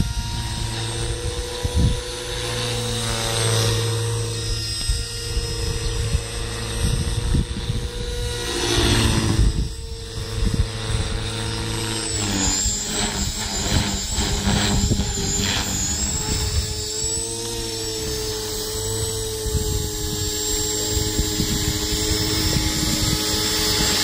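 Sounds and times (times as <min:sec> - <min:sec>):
helicopter whoosh: 0:00.0 - 0:24.0
rc helicopter whine: 0:00.0 - 0:24.0.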